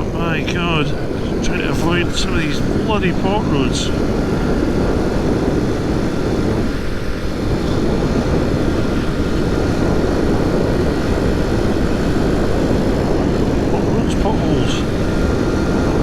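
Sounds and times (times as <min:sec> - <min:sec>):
wind rush over microphone: 0:00.0 - 0:16.0.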